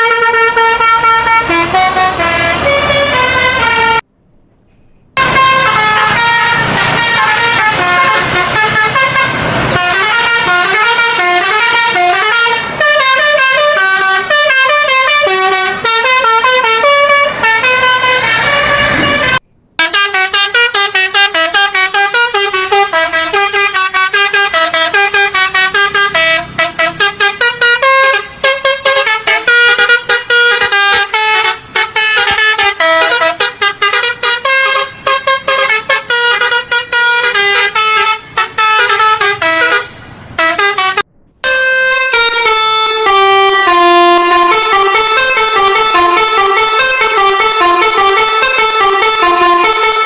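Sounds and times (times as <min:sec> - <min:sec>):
musical air horn tune: 0:00.0 - 0:04.0, 0:05.2 - 0:50.0.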